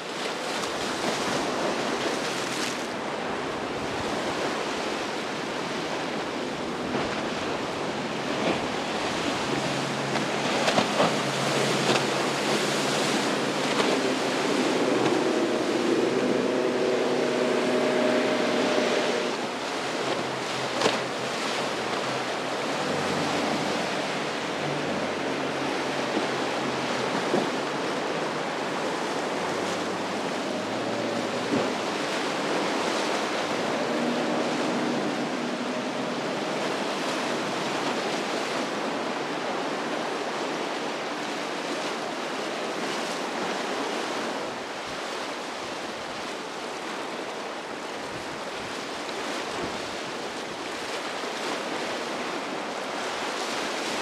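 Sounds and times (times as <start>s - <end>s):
faint boat engine hum: 0.0s - 54.0s
ocean surf breaking: 0.0s - 54.0s.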